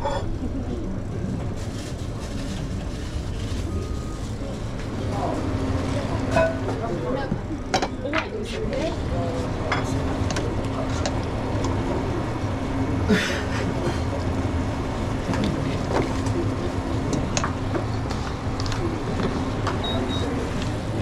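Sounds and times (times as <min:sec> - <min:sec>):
kitchen machinery humming: 0:00.0 - 0:21.0.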